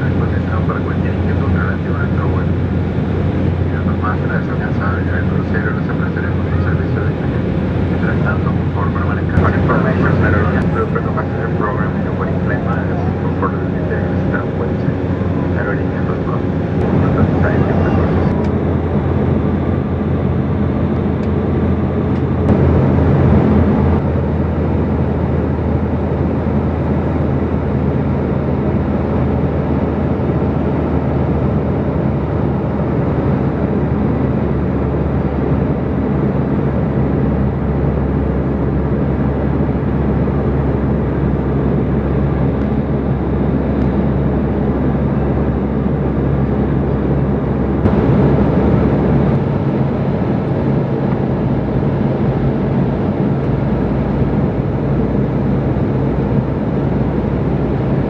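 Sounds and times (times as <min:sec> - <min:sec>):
low hum of jet engines: 0:00.0 - 0:58.0
airflow rushing over fuselage: 0:06.3 - 0:58.0.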